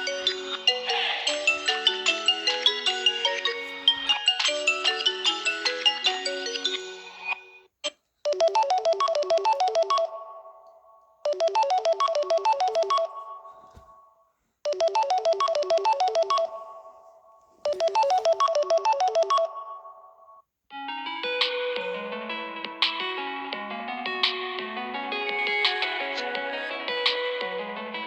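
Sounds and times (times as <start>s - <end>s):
phone ringtone melody: 0.0s - 14.1s, 14.7s - 28.0s.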